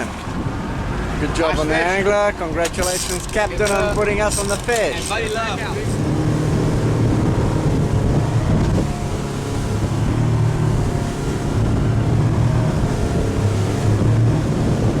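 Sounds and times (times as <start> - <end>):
motorboat engine humming: 0.0 - 15.0
wind buffeting microphone: 0.0 - 15.0.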